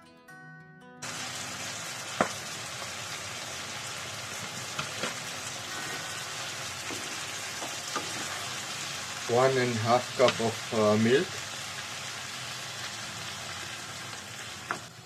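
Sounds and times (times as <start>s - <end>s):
food sizzling in a frying pan: 1.0s - 15.0s.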